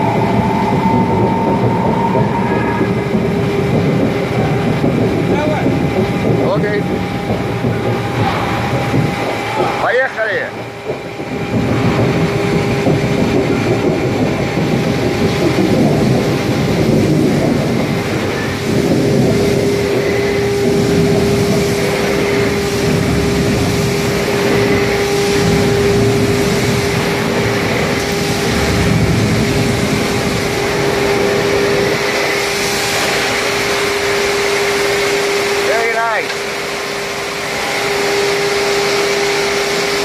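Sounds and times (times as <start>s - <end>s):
forging press humming: 0.0s - 40.0s
shop noise rumble: 0.0s - 40.0s.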